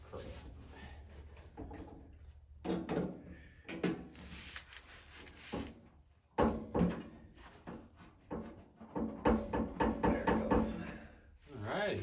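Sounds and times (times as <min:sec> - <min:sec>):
parts scraping and knocking: 0:00.0 - 0:11.1.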